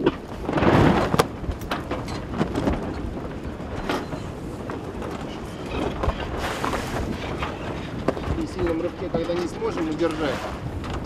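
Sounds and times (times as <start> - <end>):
water noise: 0.0 - 11.0
wind rushing over microphone: 0.0 - 11.0.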